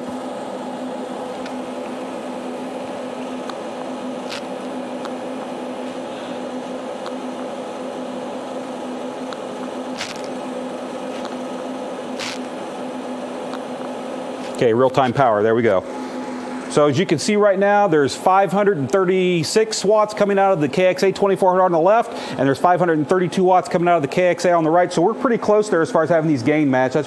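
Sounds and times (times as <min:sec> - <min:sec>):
electrical hum with hiss: 0:00.0 - 0:27.0.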